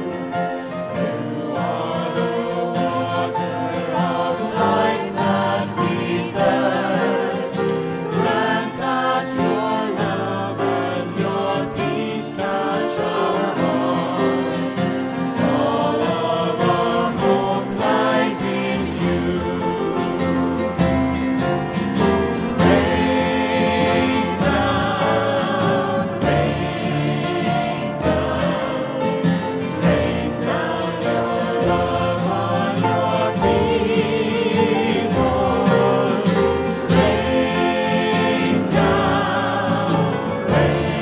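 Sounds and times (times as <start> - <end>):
choir singing a hymn: 0.0 - 41.0
guitar accompaniment: 0.0 - 41.0.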